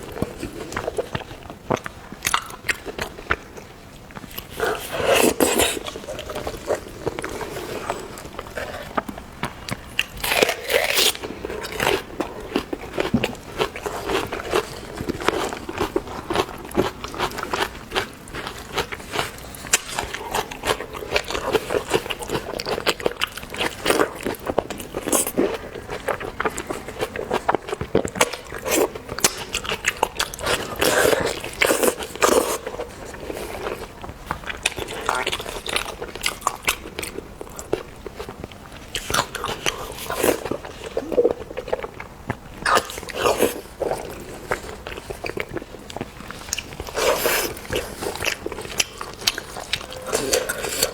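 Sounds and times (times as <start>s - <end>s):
mouth clicks and crunches: 0.0s - 50.9s
person chewing seafood: 0.0s - 50.9s.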